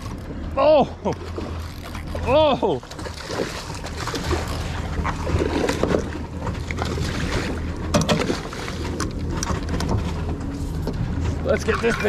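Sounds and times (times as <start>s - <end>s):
outboard engines idling: 0.0s - 12.0s.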